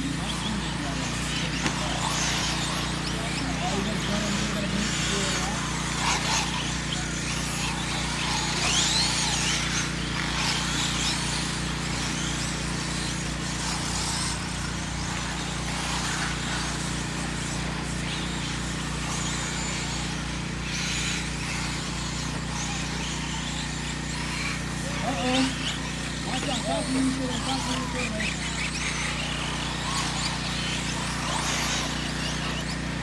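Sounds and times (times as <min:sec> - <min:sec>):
rc truck motors whining: 0:00.0 - 0:33.0
steady low hum: 0:00.0 - 0:33.0.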